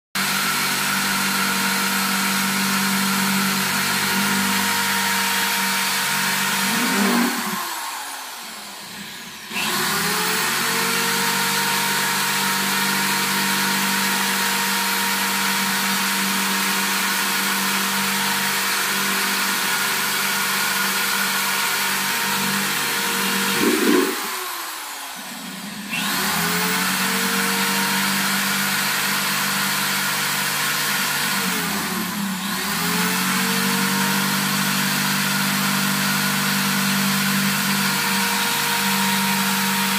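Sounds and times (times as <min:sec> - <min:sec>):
electric drill whining: 0:00.2 - 0:39.9.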